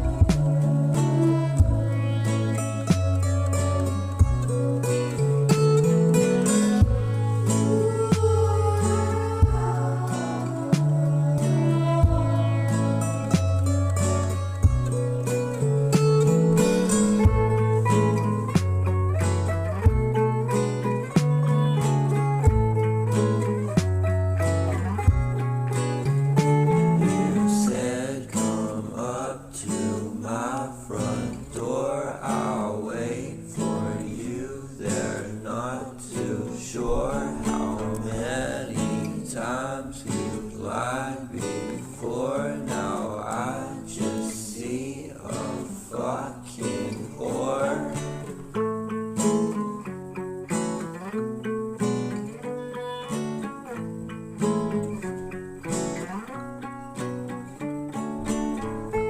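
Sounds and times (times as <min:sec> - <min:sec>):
acoustic guitar music: 0:00.0 - 0:59.0
plucked guitar notes: 0:00.0 - 0:59.0.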